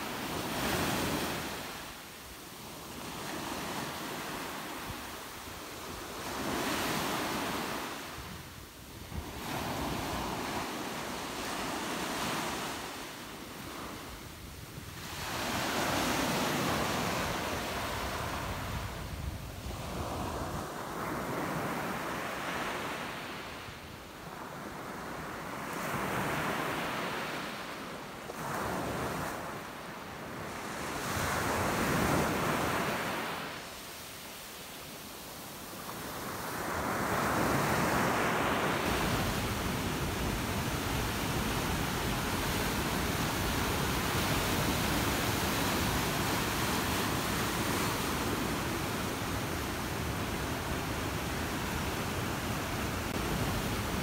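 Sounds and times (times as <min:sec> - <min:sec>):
waves washing up a beach: 0:00.0 - 0:54.0.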